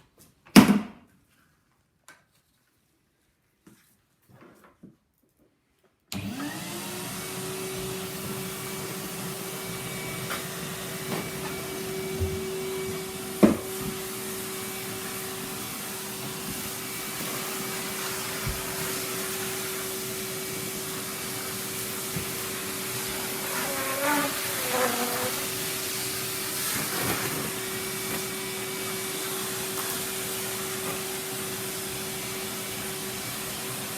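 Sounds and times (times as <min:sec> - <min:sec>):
vacuum cleaner motor whine: 0:06.1 - 0:33.9.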